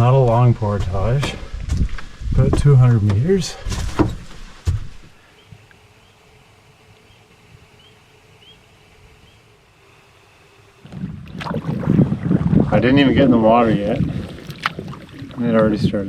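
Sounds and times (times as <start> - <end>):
faint insect hum: 1.3 - 16.0.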